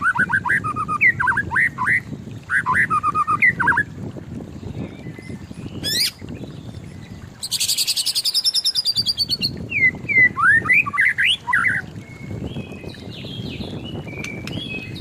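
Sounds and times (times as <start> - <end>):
bird singing trills and whistles: 0.0 - 3.9, 4.6 - 15.0.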